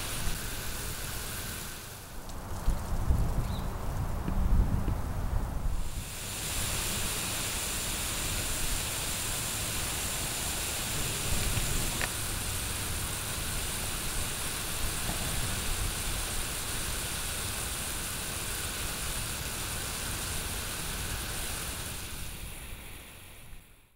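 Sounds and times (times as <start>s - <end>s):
sprinkler spraying water: 0.0s - 4.7s, 5.6s - 23.9s.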